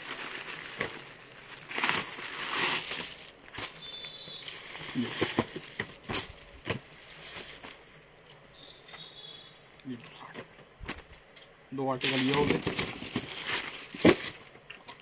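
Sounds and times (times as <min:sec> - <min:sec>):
clothing and plastic rustling: 0:00.0 - 0:11.2, 0:11.9 - 0:15.0.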